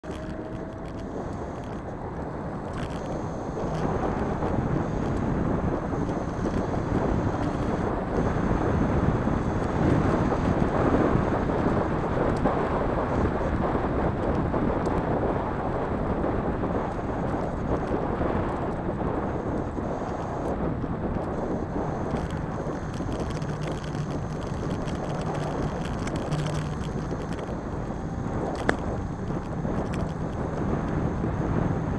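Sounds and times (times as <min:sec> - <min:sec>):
scooter wheels rolling on asphalt: 0:00.0 - 0:31.9
wind buffeting microphone: 0:00.0 - 0:31.9.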